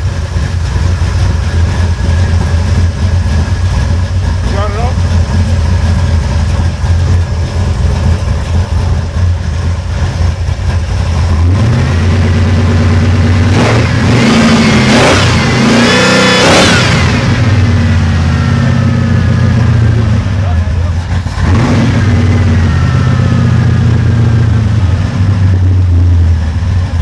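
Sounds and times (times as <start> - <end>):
car engine idling: 0.0 - 27.0
car engine revving: 0.0 - 27.0.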